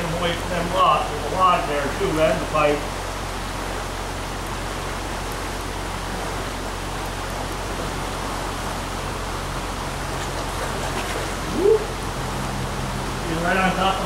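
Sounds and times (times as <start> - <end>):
stream running over rocks: 0.0 - 14.0.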